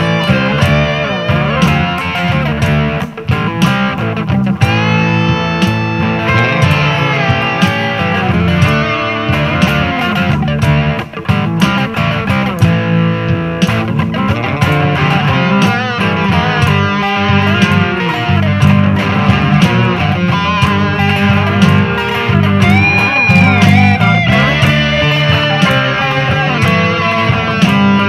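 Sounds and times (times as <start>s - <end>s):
bass guitar: 0.0s - 28.0s
drum kit: 0.0s - 28.0s
electric guitars: 0.0s - 28.0s.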